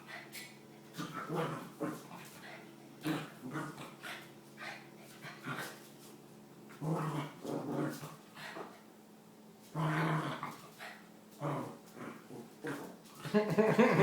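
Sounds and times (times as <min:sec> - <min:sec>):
puppy growling: 0:00.3 - 0:05.9, 0:06.7 - 0:08.8, 0:09.7 - 0:14.0.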